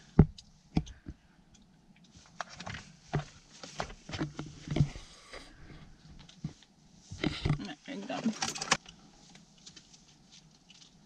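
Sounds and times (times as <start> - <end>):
rustling: 2.1 - 11.0.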